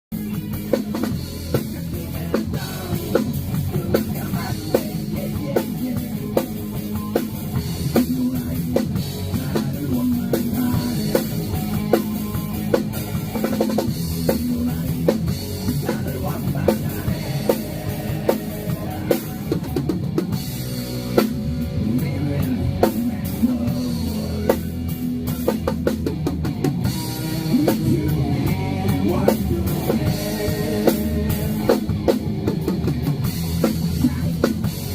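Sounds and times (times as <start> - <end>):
drum kit beat: 0.1 - 34.9.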